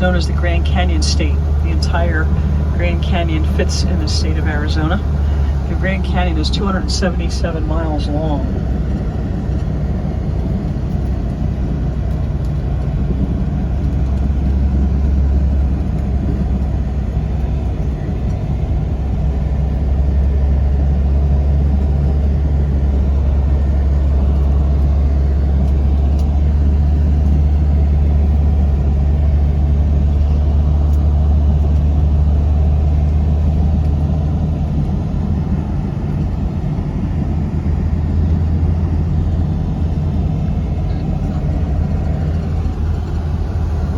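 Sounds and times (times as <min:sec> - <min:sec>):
vehicle engine and road drone: 0:00.0 - 0:43.9.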